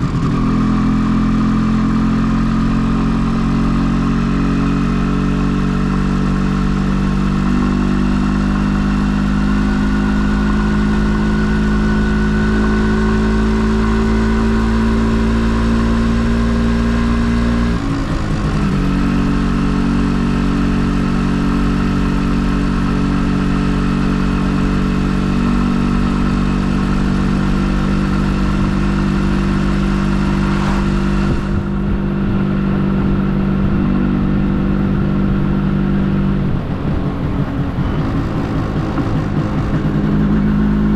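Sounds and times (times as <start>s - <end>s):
two-stroke motorcycle engine running: 0.0s - 40.9s.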